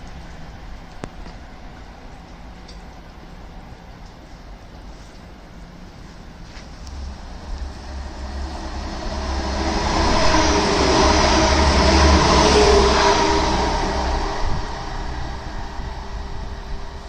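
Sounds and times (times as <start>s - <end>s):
passenger train passing: 0.0s - 17.0s.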